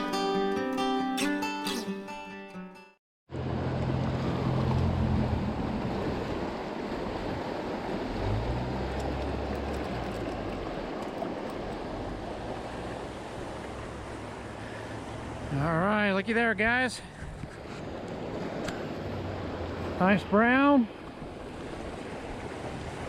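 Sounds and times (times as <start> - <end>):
river water rushing: 3.3 - 23.0.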